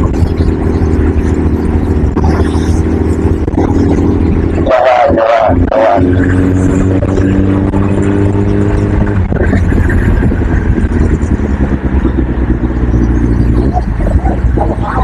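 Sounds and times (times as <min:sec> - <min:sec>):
road noise: 0:00.0 - 0:15.0
vehicle engine drone: 0:00.0 - 0:15.0.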